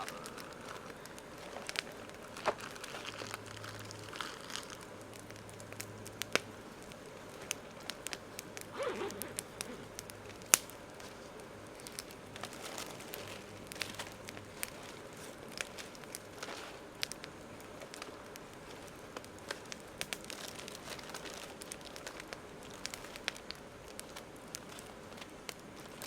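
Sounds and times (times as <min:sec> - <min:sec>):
campfire crackling: 0:00.0 - 0:26.0
sharp fire pops: 0:00.0 - 0:26.0.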